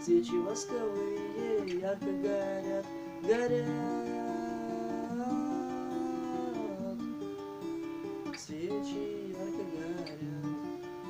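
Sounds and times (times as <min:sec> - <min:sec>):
person singing: 0:00.0 - 0:07.4, 0:08.2 - 0:11.0
plucked acoustic guitar: 0:00.0 - 0:11.0.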